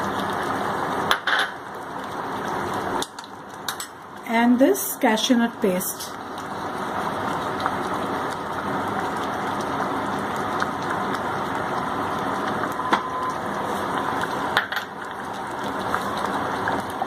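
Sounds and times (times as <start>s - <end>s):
gravy sizzling in a pan: 0.0s - 17.0s.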